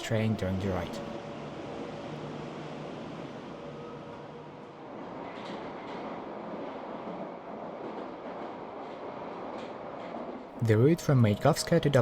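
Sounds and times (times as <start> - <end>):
metro train ride noise: 0.0 - 12.0.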